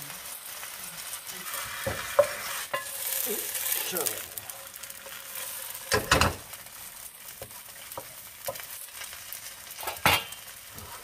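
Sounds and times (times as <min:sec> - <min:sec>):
pancake sizzling in a pan: 0:00.0 - 0:11.0.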